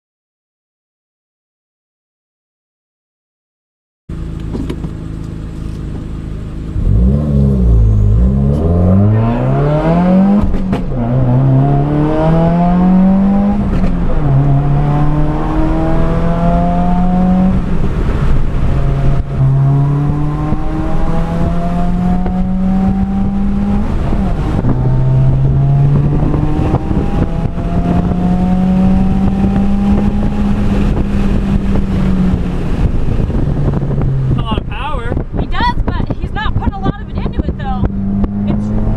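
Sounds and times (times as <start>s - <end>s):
car engine accelerating hard: 4.1s - 38.9s.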